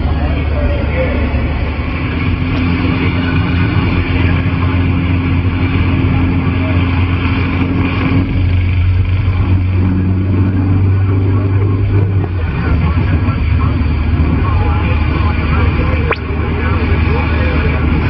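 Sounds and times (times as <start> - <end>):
car driving drone in cabin: 0.0 - 18.0.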